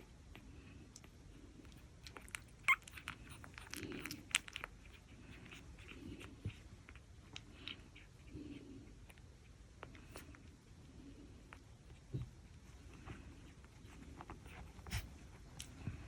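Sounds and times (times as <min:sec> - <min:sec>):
puppies chewing: 0:00.0 - 0:16.0.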